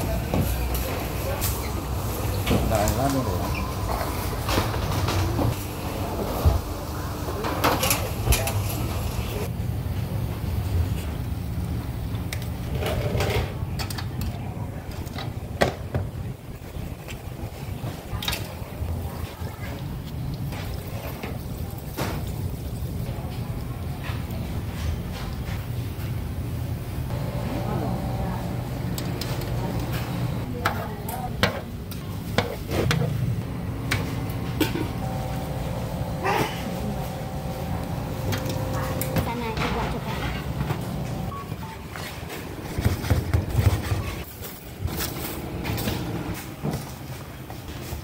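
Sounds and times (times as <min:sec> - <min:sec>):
low kitchen hum: 0:00.0 - 0:48.0.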